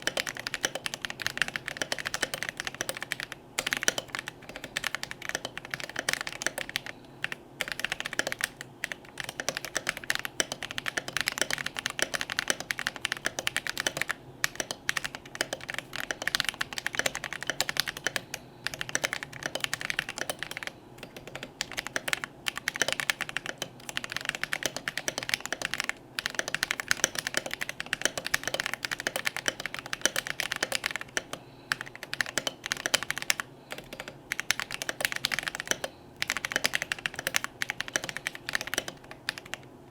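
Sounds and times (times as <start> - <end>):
fast mechanical keyboard typing: 0.0 - 39.7.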